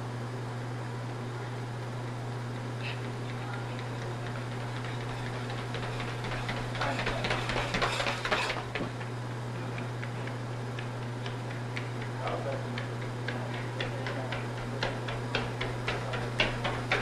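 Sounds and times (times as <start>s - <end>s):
running footsteps on tiled floor: 2.3s - 17.0s.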